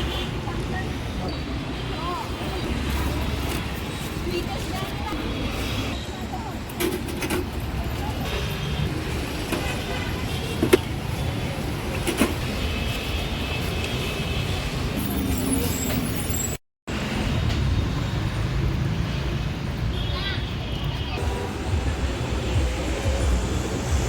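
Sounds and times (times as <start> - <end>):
passing vehicles rumbling: 0.0 - 24.0.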